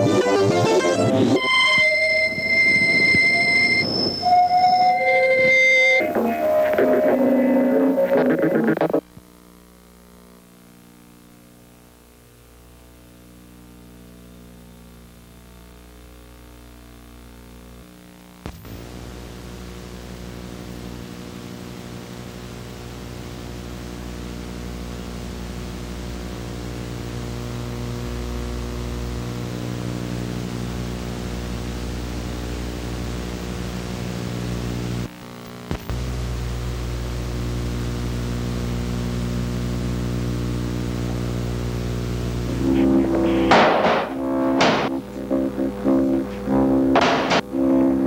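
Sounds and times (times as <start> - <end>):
electronic hum: 0.0 - 48.0.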